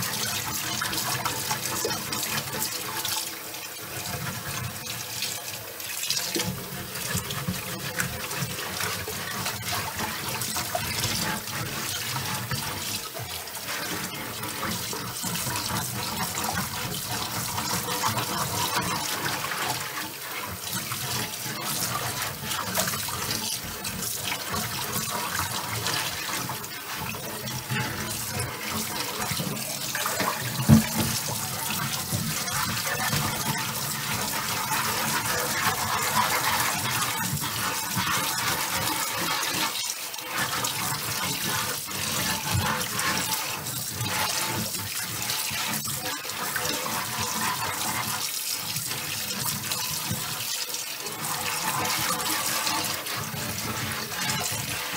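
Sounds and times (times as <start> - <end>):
tap water running into a pan: 0.0 - 54.9
water splashing and sloshing: 0.0 - 54.9.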